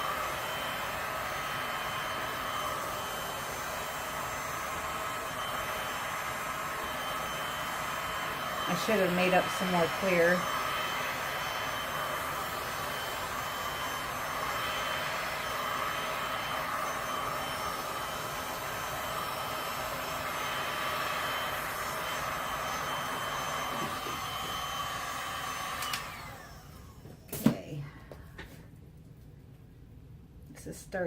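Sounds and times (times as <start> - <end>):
heat gun fan whining: 0.0 - 28.8.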